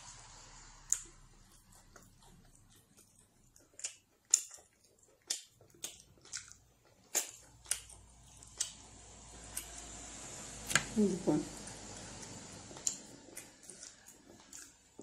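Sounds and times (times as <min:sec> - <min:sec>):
person chewing food: 0:00.8 - 0:10.0, 0:11.6 - 0:15.0.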